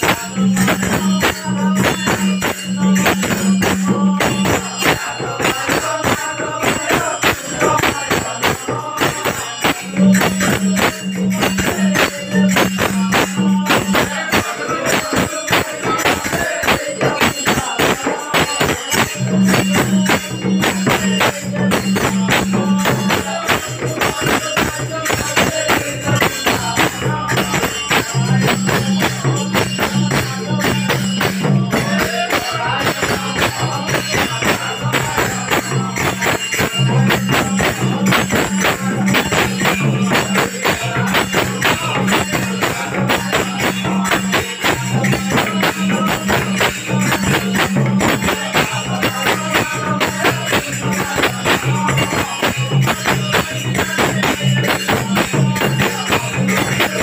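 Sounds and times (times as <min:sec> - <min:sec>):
barrel drums beaten fast: 0:00.0 - 0:57.0
jingling hand cymbals: 0:00.0 - 0:57.0
voices chanting: 0:02.8 - 0:57.0.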